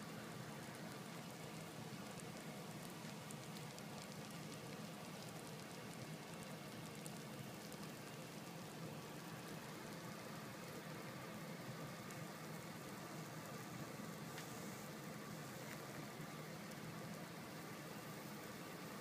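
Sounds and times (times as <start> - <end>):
eggs sizzling and crackling: 0.0 - 19.0
low steady hum: 0.0 - 19.0.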